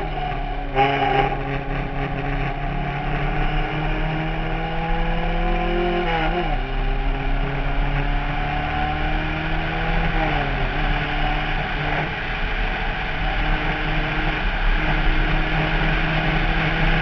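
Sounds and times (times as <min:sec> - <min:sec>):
race car engine under load: 0:00.0 - 0:17.0.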